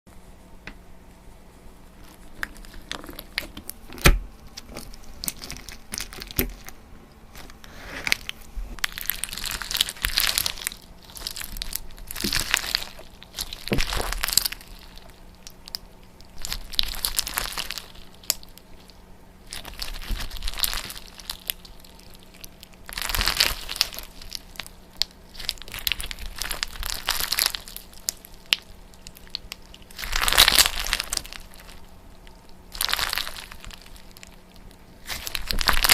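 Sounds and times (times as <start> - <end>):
faint steady hum: 0.1 - 35.9
crunching and crinkling: 1.8 - 35.9.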